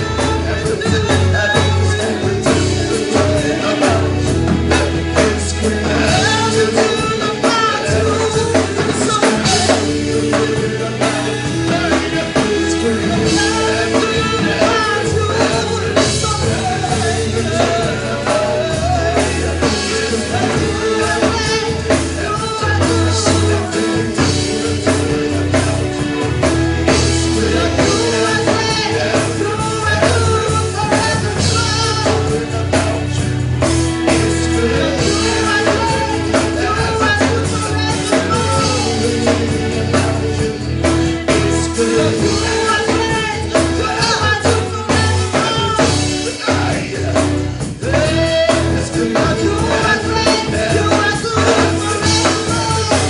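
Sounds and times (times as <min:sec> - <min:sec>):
person singing: 0:00.0 - 0:33.4, 0:34.0 - 0:53.0
live band playing: 0:00.0 - 0:53.0.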